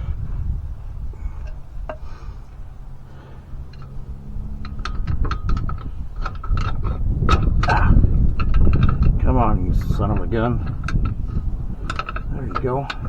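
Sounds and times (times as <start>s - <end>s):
low steady hum: 0.0s - 13.0s
metal parts clinking and tapping: 1.3s - 13.0s.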